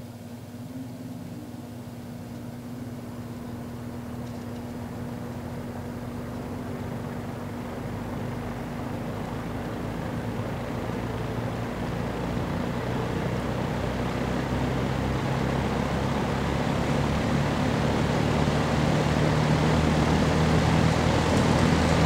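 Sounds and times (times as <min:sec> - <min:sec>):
box fan motor humming: 0:00.0 - 0:22.0.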